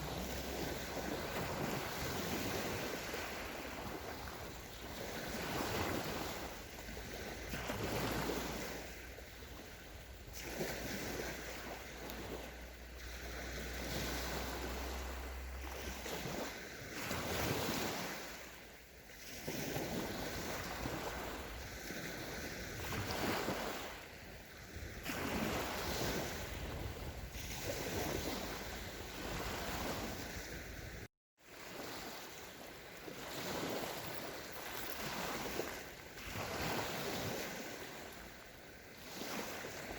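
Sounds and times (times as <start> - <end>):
sea waves breaking on sandy beach: 0.0 - 39.9.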